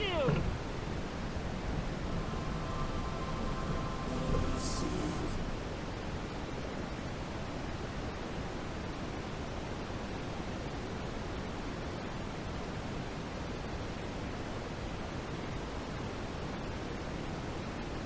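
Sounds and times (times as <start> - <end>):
steady synthetic noise hiss: 0.0 - 18.0.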